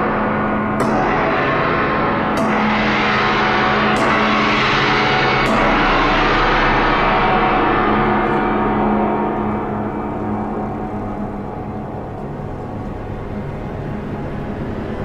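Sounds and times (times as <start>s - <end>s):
gong ringing: 0.0s - 15.0s.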